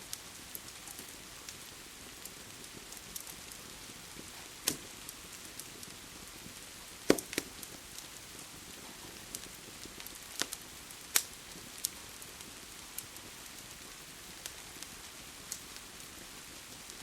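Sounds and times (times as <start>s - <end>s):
rain hiss: 0.0s - 17.0s
wood fire crackling: 0.0s - 17.0s.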